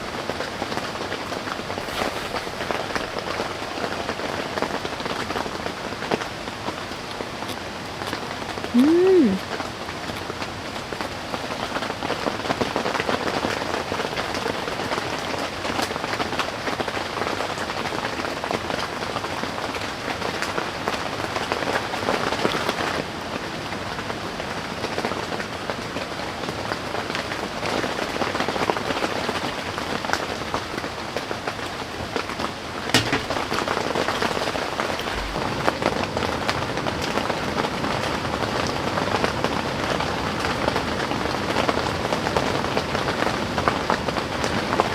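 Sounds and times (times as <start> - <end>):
heavy rain on a tent: 0.0 - 44.9.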